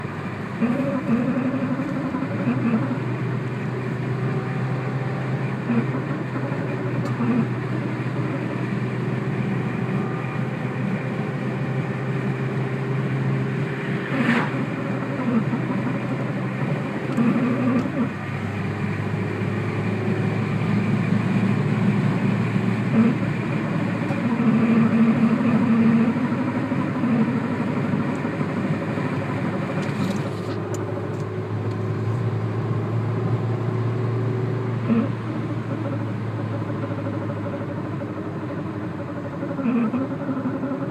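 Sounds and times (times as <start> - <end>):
car engine humming: 0.0 - 40.9.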